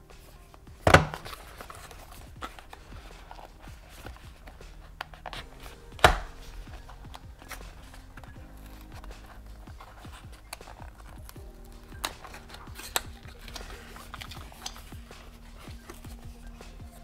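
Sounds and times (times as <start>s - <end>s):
cardboard box rustles and clicks: 0.5s - 17.0s.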